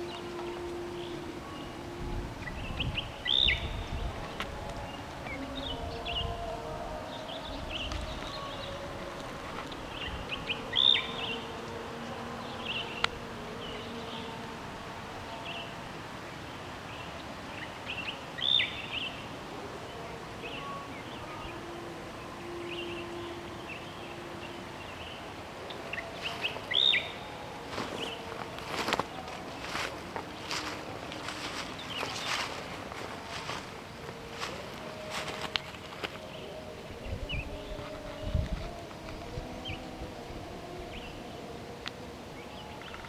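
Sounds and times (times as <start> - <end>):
outdoor background noise: 0.0 - 43.0.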